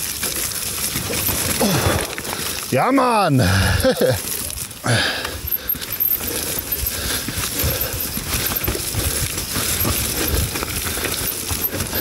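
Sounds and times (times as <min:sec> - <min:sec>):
bike clattering over rough ground: 0:00.0 - 0:12.0
tyre and wind hiss: 0:00.0 - 0:12.0.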